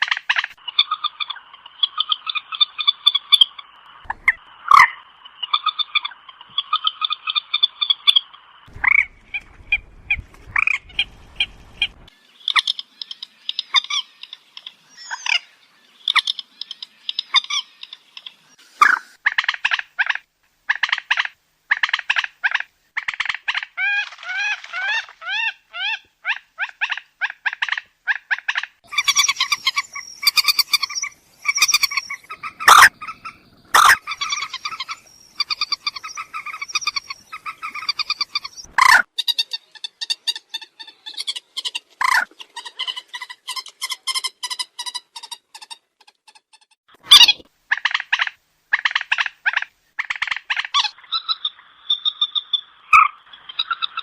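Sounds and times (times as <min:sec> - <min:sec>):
moorhen calls: 0:00.0 - 0:45.3.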